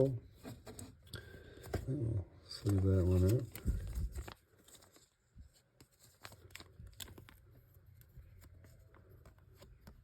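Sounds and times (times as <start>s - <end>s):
cards rustling in plastic sleeve: 1.6s - 10.0s.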